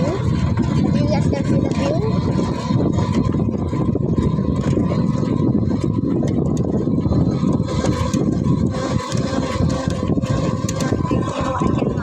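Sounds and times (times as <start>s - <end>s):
faint engine whine: 0.0s - 12.0s
small engine rumbling: 0.0s - 12.0s.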